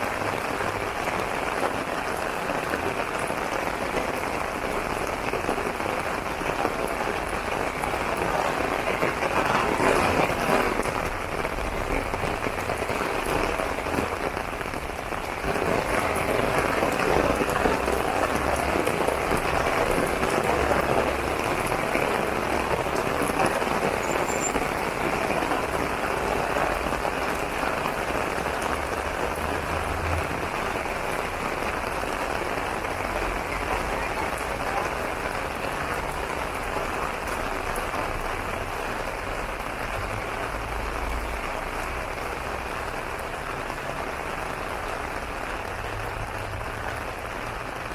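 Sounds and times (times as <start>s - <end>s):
rain on an umbrella: 0.0s - 47.9s.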